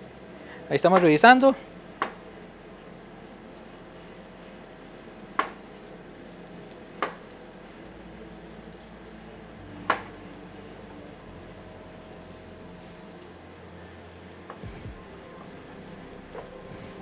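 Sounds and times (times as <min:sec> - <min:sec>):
low kitchen hum: 0:00.0 - 0:17.0.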